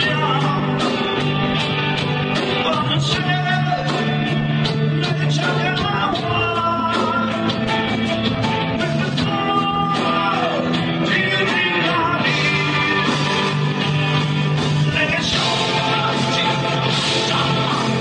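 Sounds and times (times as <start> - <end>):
gliding lead guitar lines: 0.0 - 18.0
heavy metal band playing live: 0.0 - 18.0.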